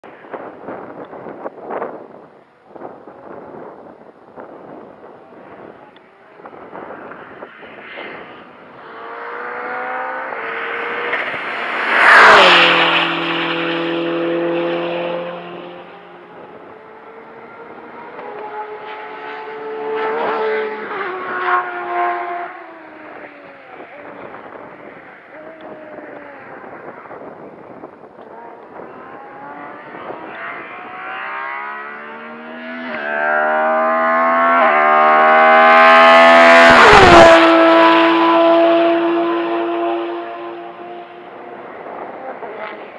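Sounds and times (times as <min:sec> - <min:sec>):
race car revving with upshifts: 0:05.5 - 0:42.9
race car passing: 0:06.4 - 0:42.9.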